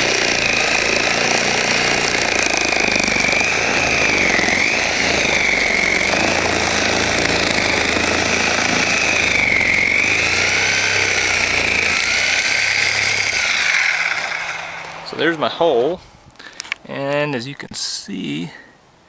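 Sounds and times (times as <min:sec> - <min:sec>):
electric power saw cutting: 0:00.0 - 0:15.9.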